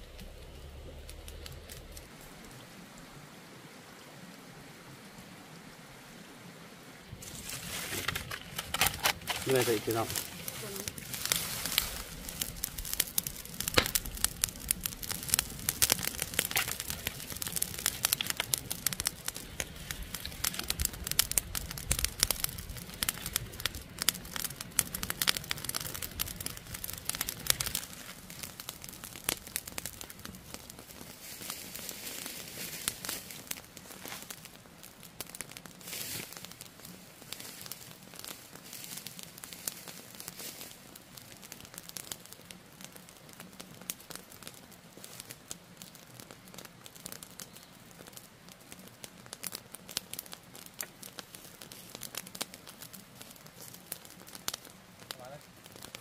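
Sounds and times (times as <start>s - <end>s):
dry vegetation crackling: 0.0s - 2.6s, 7.1s - 56.0s.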